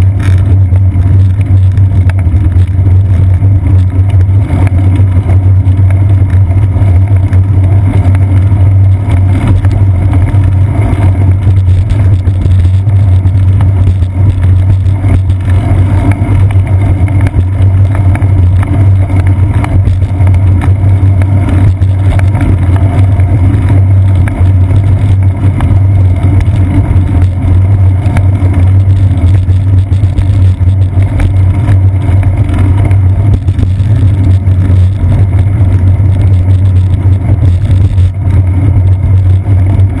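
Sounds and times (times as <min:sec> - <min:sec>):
wind and road rumble on camera: 0:00.0 - 0:40.0.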